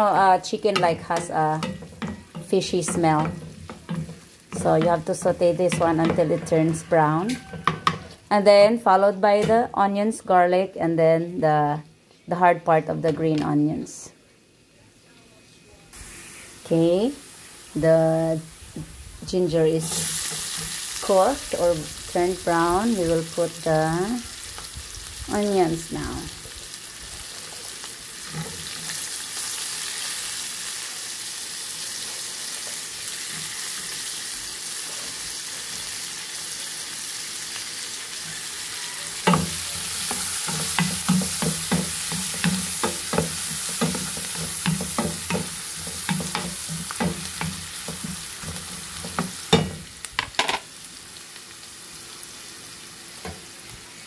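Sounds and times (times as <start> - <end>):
onions sizzling in butter: 0.0 - 8.4, 15.9 - 54.0.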